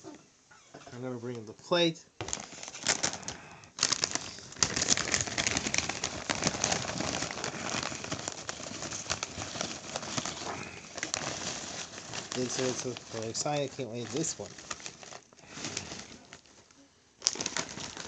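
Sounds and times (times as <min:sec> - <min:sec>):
foil chip bag crinkling: 0:02.2 - 0:18.0.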